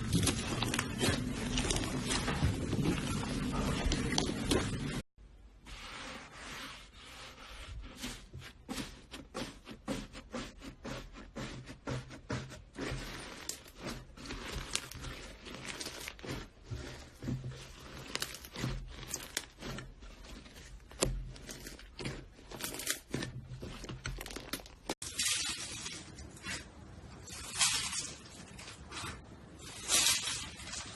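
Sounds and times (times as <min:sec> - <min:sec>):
slime squishing with crackles: 0:00.0 - 0:05.0, 0:06.3 - 0:30.9.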